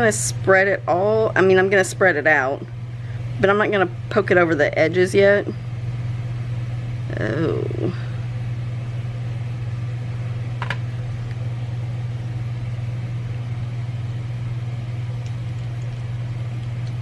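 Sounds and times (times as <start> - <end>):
laundry machines humming: 0.0 - 17.0.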